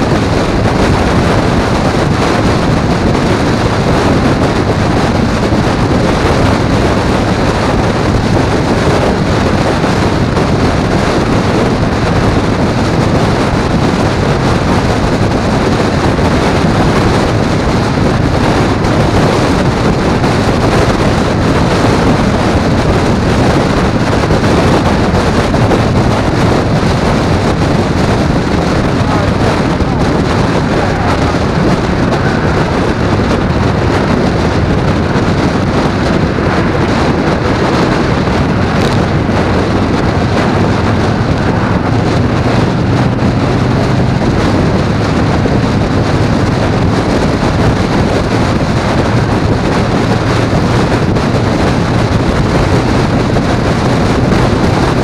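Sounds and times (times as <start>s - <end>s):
vehicle road and engine noise: 0.0s - 55.0s
wind noise on microphone: 0.0s - 55.0s.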